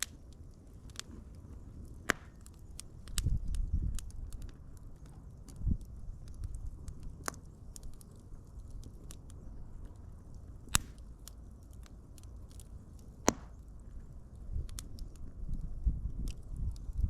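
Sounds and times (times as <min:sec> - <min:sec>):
sharp pops of fire: 0:00.0 - 0:17.0
wood fire crackling: 0:00.0 - 0:17.0.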